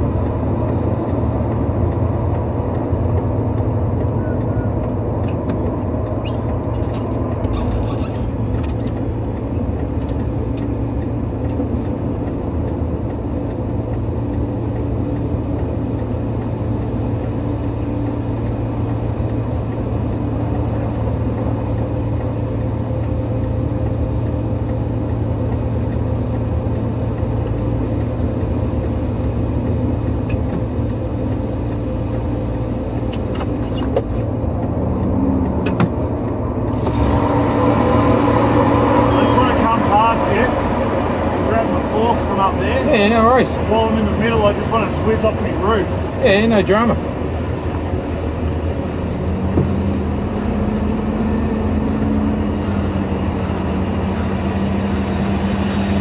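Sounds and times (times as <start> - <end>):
large vehicle engine running: 0.0 - 56.0.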